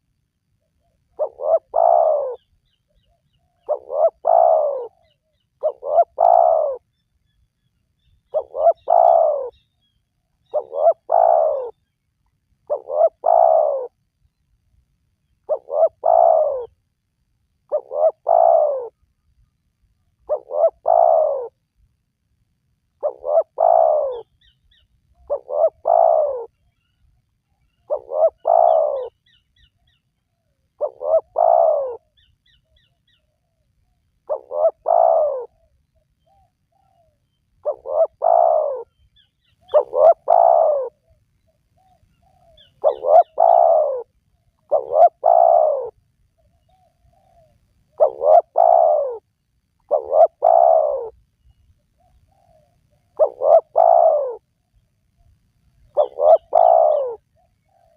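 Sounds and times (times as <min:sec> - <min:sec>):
dove cooing: 0:00.8 - 0:06.9, 0:08.2 - 0:09.7, 0:10.4 - 0:11.8, 0:12.6 - 0:14.0, 0:15.3 - 0:16.8, 0:17.7 - 0:19.0, 0:20.2 - 0:21.6, 0:23.0 - 0:26.8, 0:27.5 - 0:33.6, 0:34.2 - 0:54.5, 0:55.8 - 0:57.9.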